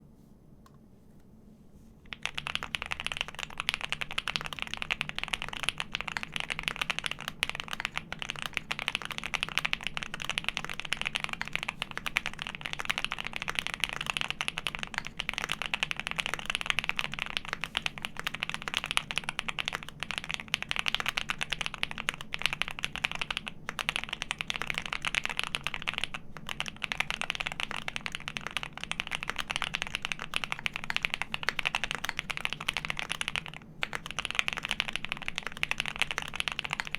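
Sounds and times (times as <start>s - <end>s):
mechanical keyboard typing: 2.1s - 36.9s.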